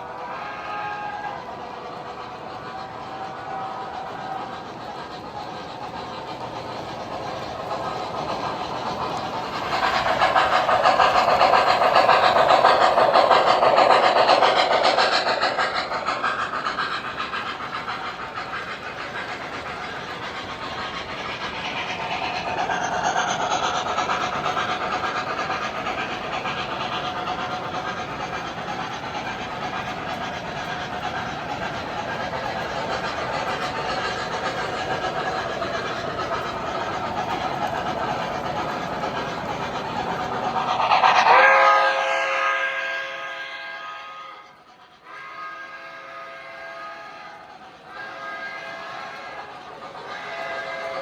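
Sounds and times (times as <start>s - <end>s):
model train rumble and wheel clatter: 0.0s - 51.0s.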